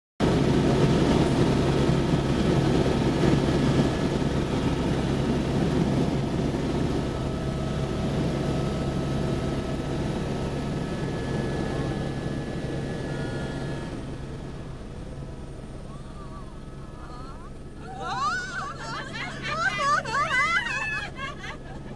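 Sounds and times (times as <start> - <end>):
helicopter engine and rotor: 0.2 - 21.9.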